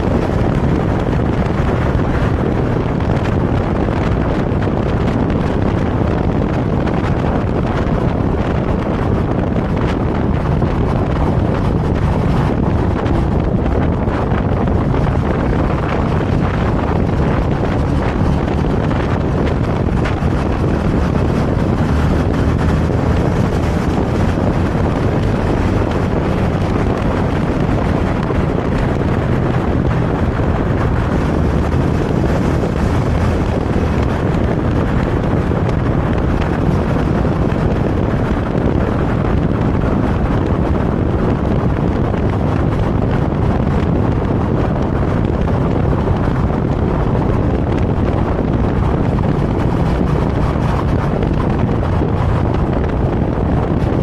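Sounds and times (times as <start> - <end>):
motorcycle engine: 0.0 - 54.0
road noise: 0.0 - 54.0
wind rushing over microphone: 0.0 - 54.0.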